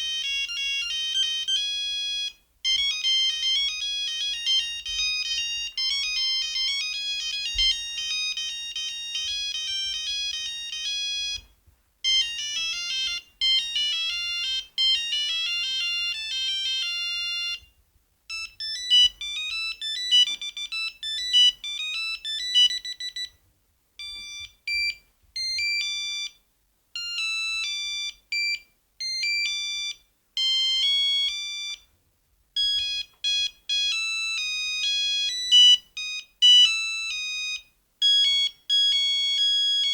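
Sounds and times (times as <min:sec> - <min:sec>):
mobile phone ringtone melodies: 0:00.0 - 0:17.7, 0:18.3 - 0:23.4, 0:24.0 - 0:26.4, 0:27.0 - 0:31.9, 0:32.6 - 0:39.9.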